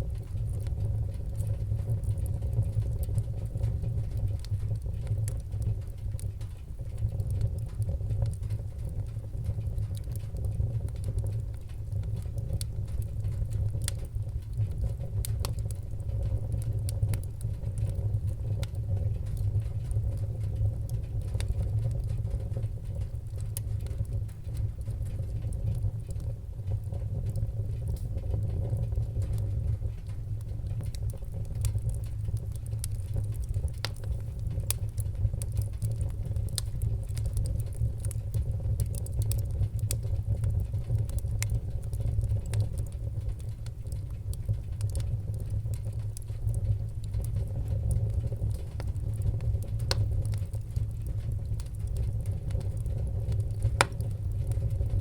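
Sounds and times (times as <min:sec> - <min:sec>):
low fire rumble: 0:00.0 - 0:55.0
wood fire crackling: 0:00.0 - 0:55.0
sharp pops and snaps: 0:00.2 - 0:55.0.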